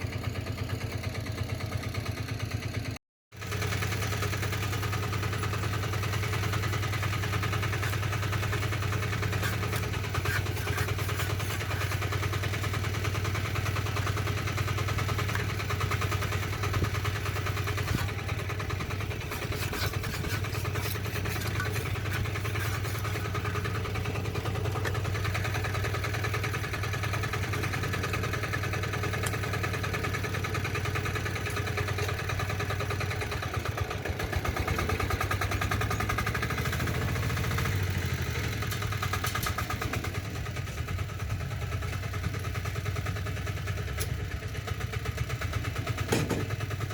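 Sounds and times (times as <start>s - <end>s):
diesel tractor engine chugging: 0.0s - 46.9s.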